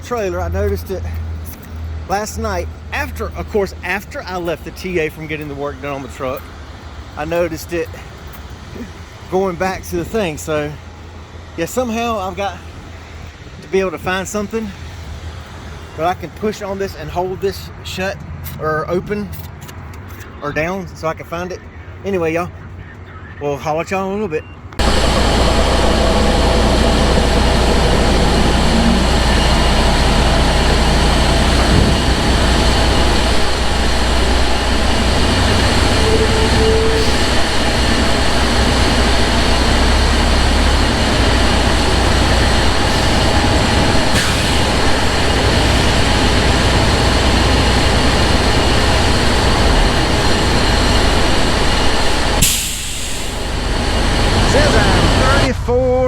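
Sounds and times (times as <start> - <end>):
truck engine drone: 0.0 - 23.4, 24.2 - 56.0
road noise: 0.0 - 56.0.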